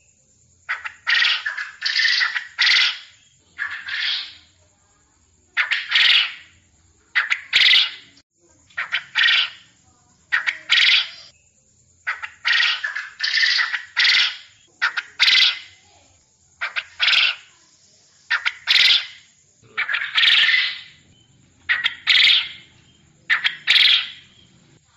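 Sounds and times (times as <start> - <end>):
bird harsh raspy calls: 0.7 - 4.5, 5.6 - 6.6, 7.2 - 11.3, 12.0 - 15.8, 16.6 - 17.5, 18.3 - 24.6.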